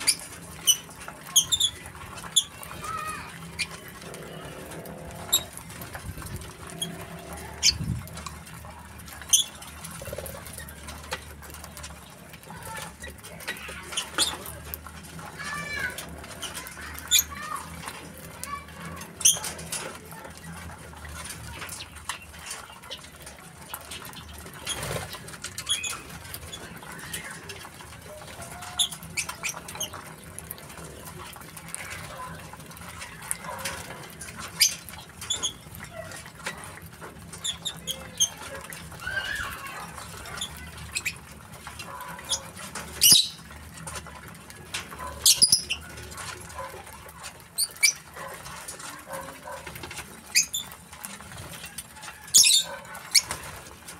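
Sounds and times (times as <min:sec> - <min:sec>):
lovebirds chattering: 0:00.0 - 0:53.7.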